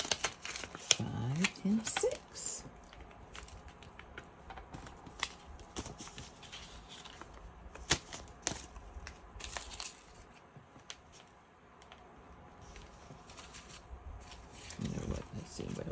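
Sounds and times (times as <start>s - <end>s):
paper bills rustling: 0.0s - 12.0s, 12.6s - 15.9s.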